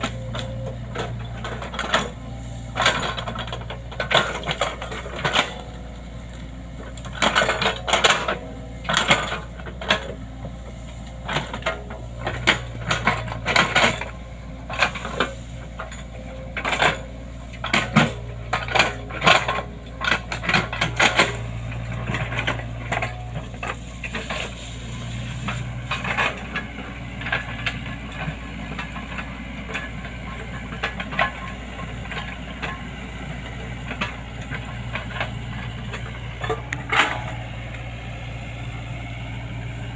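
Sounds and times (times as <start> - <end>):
metallic clanks and rattles: 0.0 - 37.9
diesel engine hum: 0.0 - 39.9.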